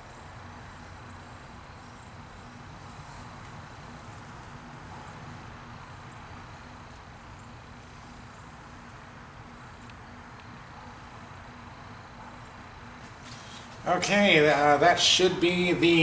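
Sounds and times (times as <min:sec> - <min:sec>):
faint high whine: 0:00.0 - 0:16.0
low electric hum: 0:00.0 - 0:16.0.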